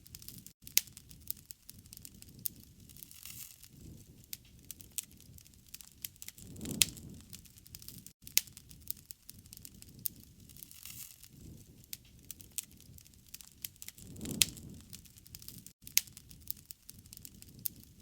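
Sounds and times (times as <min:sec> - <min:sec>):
campfire crackling: 0:00.0 - 0:18.0
sharp pops of burning wood: 0:00.1 - 0:17.9.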